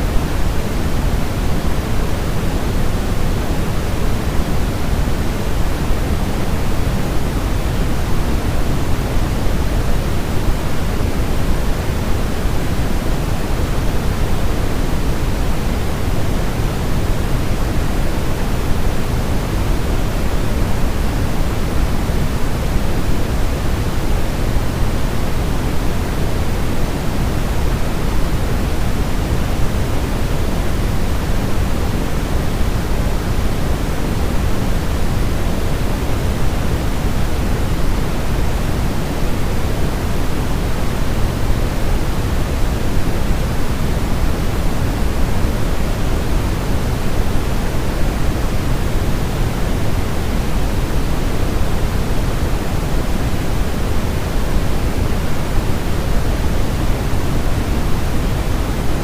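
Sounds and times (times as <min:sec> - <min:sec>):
steady low hiss noise: 0:00.0 - 0:59.0.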